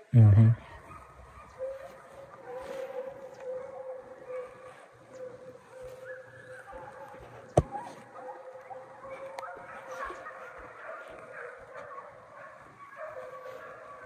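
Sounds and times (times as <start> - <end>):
hounds baying: 0.6 - 14.0.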